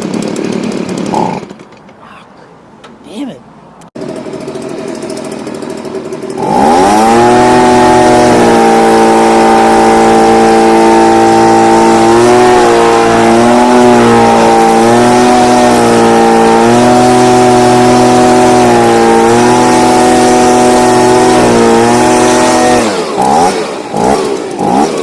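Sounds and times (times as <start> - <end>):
leaf blower engine running: 0.0 - 1.7, 4.0 - 25.0.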